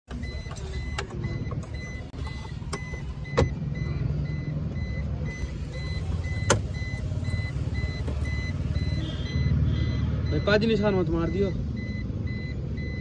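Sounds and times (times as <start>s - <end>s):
electronic beeping: 0.1s - 13.0s.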